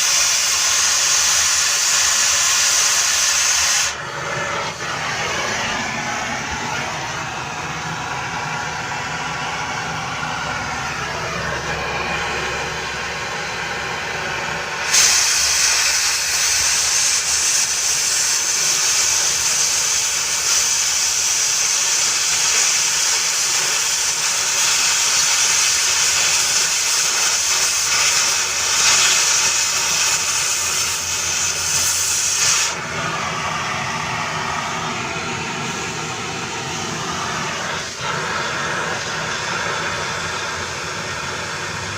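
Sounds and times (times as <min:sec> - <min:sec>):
power tool cutting metal pipe: 0:00.0 - 0:41.9
power tool whining: 0:00.0 - 0:41.9.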